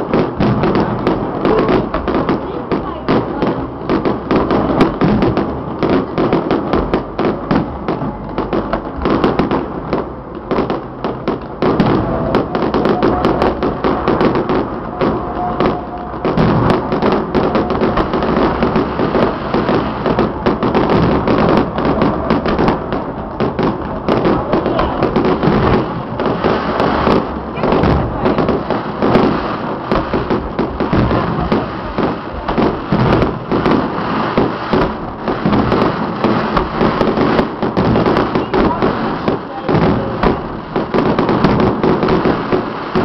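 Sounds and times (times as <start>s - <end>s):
firecrackers crackling: 0.0s - 43.0s.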